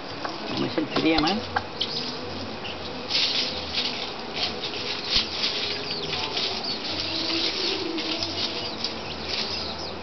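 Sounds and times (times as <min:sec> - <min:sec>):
chicks peeping: 0:00.0 - 0:10.0
crackling rustle: 0:00.0 - 0:10.0.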